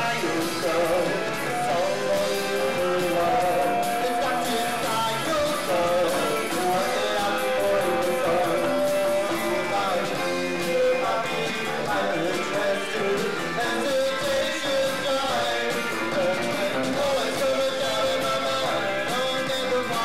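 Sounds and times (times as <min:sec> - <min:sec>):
drums: 0:00.0 - 0:20.0
electric guitar lead lines: 0:00.0 - 0:20.0.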